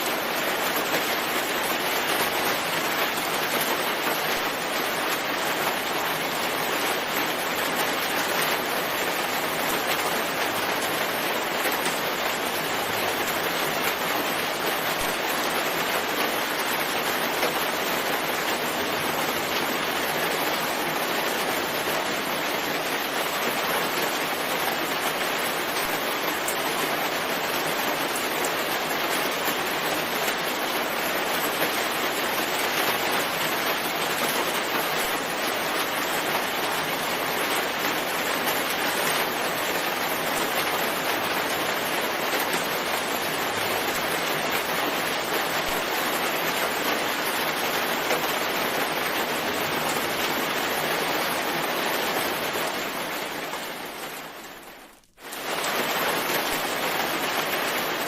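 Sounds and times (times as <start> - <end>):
steady rain in forest: 0.0 - 58.0.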